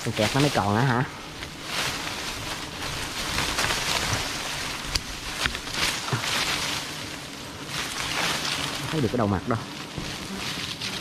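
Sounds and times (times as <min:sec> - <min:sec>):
leafy branches rustling: 0:00.0 - 0:11.0
twigs cracking: 0:00.0 - 0:11.0.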